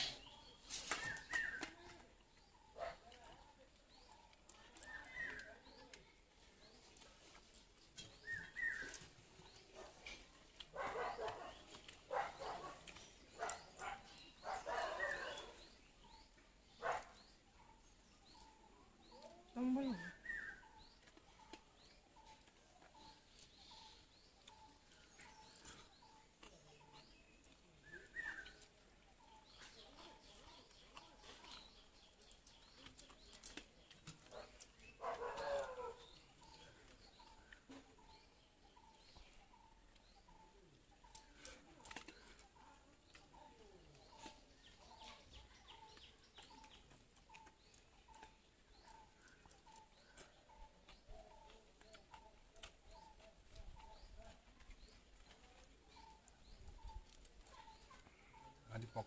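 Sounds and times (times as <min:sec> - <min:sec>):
faint bird chirping: 0:00.0 - 0:59.0
mouth clicks of eating: 0:07.9 - 0:16.3, 0:18.3 - 0:38.9, 0:39.9 - 0:59.0.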